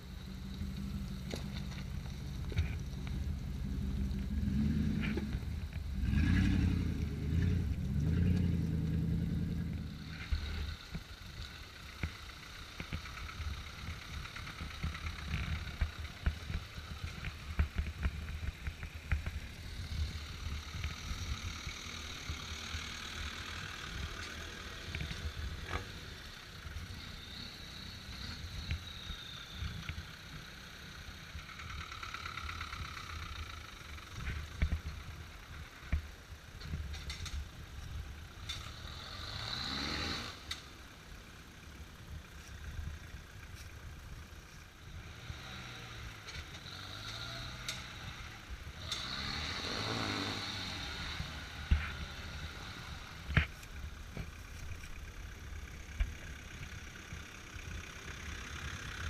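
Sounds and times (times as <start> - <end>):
off-road vehicle engine revving: 0.0 - 36.0, 36.8 - 43.8, 44.8 - 59.0
vehicle engines at low speed: 0.0 - 59.0.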